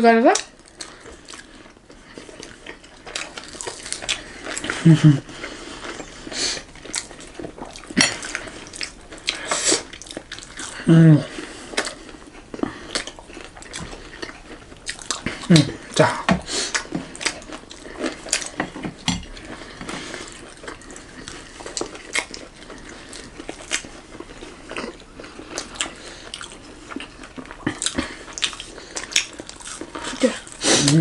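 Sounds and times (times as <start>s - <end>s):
people chewing food: 0.2s - 31.0s.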